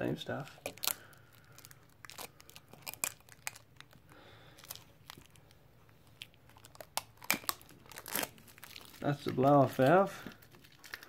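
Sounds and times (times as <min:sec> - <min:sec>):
plastic packaging rustling: 0:00.3 - 0:11.0.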